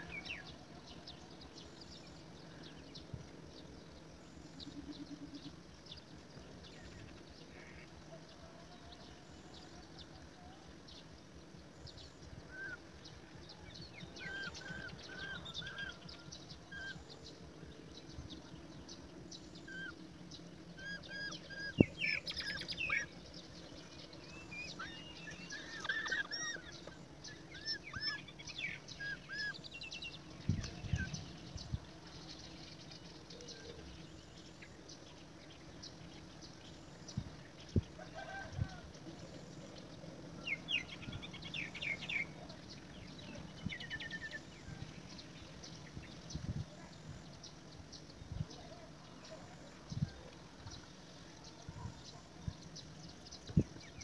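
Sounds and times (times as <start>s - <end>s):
birds chirping: 0.0s - 54.0s
low background hiss: 0.0s - 54.0s.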